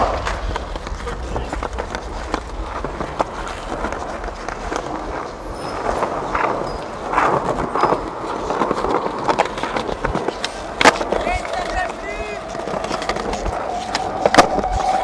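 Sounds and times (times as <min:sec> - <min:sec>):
skateboard clicks and knocks: 0:00.0 - 0:15.0
skateboard wheels rolling on stone: 0:00.0 - 0:15.0.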